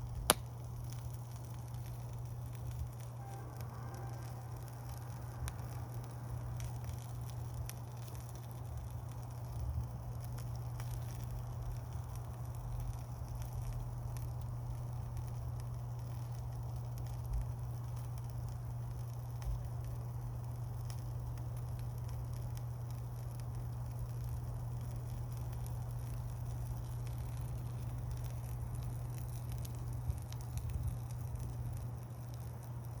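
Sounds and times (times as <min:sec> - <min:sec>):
campfire crackling and popping: 0:00.0 - 0:33.0
low hum: 0:00.0 - 0:33.0.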